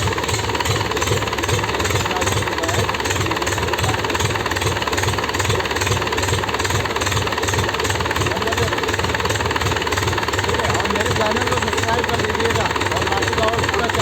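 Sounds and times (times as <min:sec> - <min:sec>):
engine firing rhythmically: 0:00.0 - 0:14.0.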